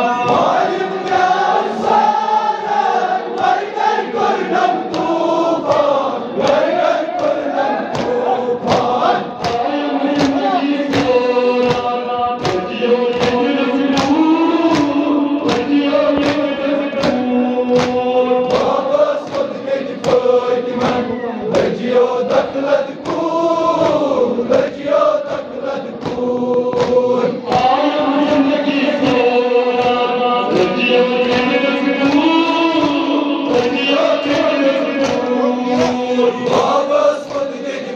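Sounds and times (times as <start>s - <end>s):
men chanting together: 0.0s - 37.9s
rhythmic chest-beating: 0.0s - 37.9s.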